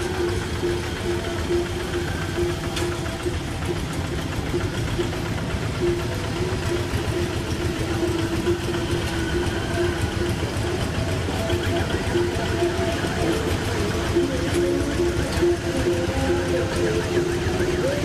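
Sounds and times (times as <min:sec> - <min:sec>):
diesel tractor engines chugging: 0:00.0 - 0:18.0.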